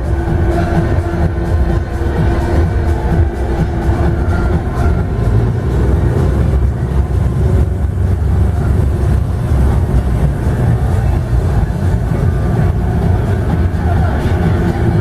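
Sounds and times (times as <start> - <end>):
bass-heavy dance music: 0.0 - 15.0.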